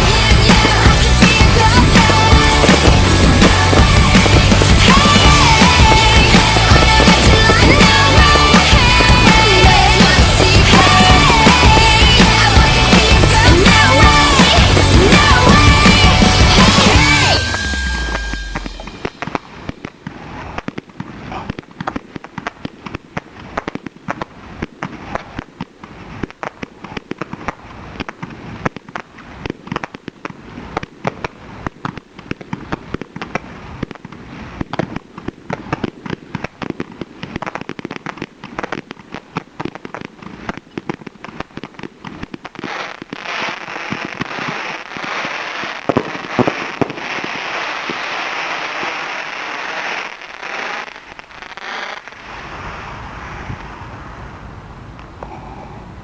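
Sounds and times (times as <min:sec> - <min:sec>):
fireworks bangs: 0:00.0 - 0:55.3
fireworks crackling hiss: 0:00.0 - 0:55.8.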